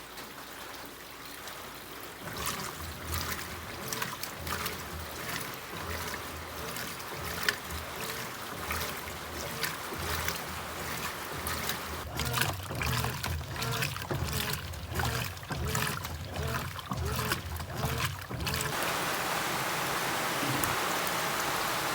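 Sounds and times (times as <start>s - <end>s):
water sloshing in washing machine: 0.0s - 21.9s
washing machine motor hum: 2.2s - 21.9s.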